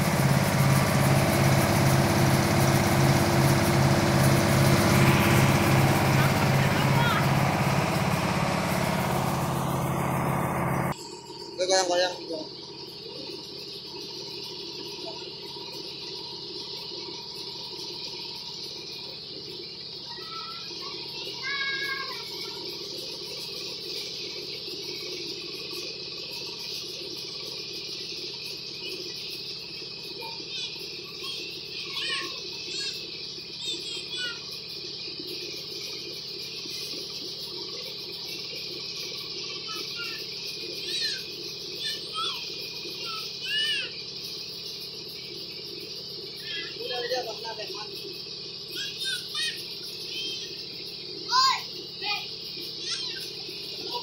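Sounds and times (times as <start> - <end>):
mill machinery drone and hiss: 0.0 - 11.6, 12.6 - 54.0.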